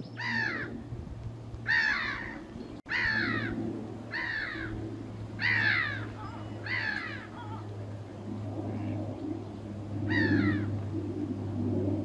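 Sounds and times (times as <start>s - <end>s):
bird calling descending notes: 1.6s - 11.4s.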